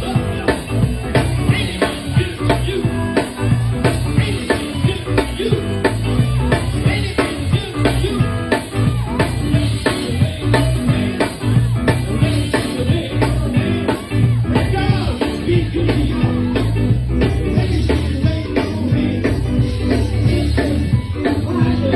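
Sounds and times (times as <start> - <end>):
drum kit beat: 0.0 - 21.9
live band playing upbeat groove: 0.0 - 21.9.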